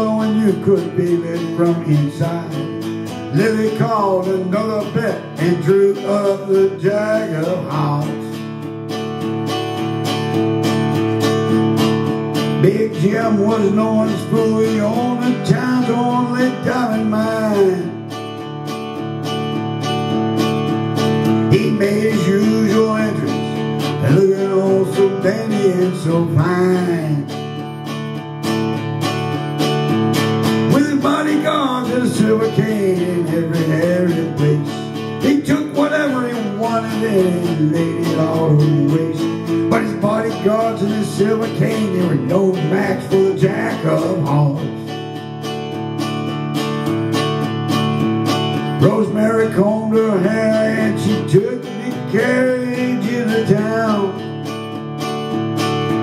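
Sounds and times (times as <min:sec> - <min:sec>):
person singing: 0:00.0 - 0:10.0, 0:11.3 - 0:29.4, 0:30.0 - 0:45.8, 0:48.4 - 0:54.6
acoustic guitar strumming: 0:00.0 - 0:56.0.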